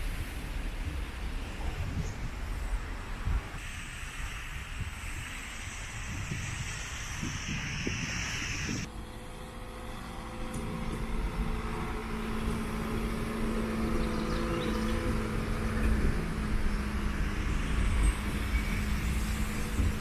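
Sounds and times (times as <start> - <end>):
train engine humming: 0.0 - 20.0.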